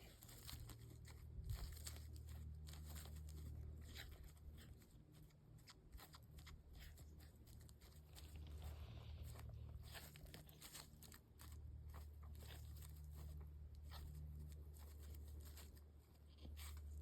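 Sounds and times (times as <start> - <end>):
faint crunching and crackling clicks: 0.0 - 17.0.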